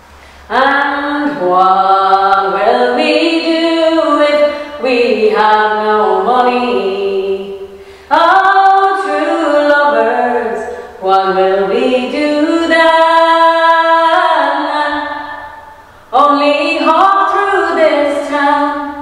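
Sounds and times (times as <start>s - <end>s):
woman singing unaccompanied: 0.5s - 19.0s.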